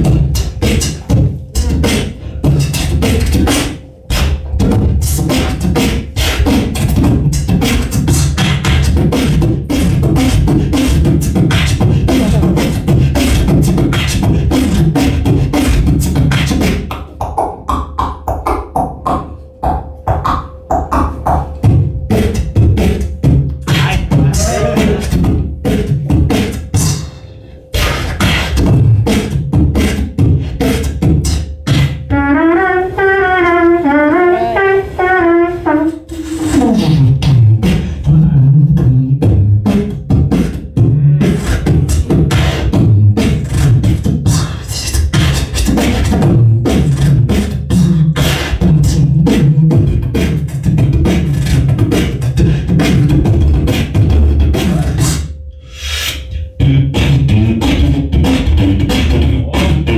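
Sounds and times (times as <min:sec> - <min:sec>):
beatboxing through microphone: 0:00.0 - 0:59.9.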